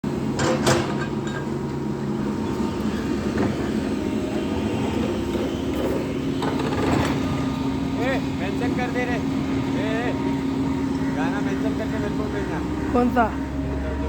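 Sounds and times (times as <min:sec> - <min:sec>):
excavator diesel engine droning: 0:00.0 - 0:14.0.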